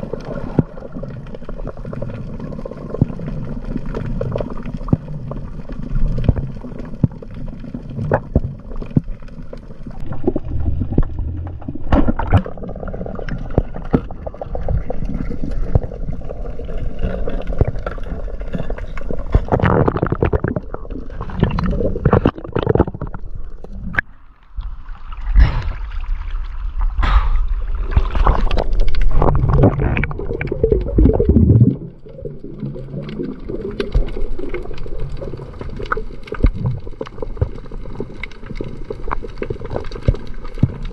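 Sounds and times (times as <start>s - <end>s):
underwater gurgling and sloshing: 0.0s - 40.9s.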